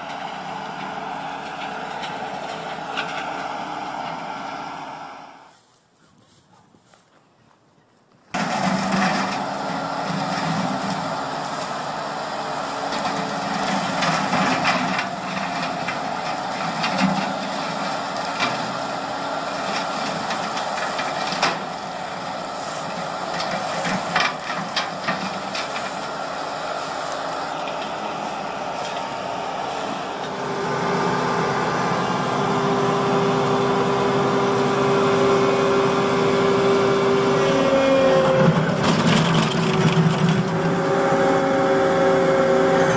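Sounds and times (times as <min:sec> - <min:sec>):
skid steer engine running: 0:00.0 - 0:05.5, 0:08.3 - 0:42.9.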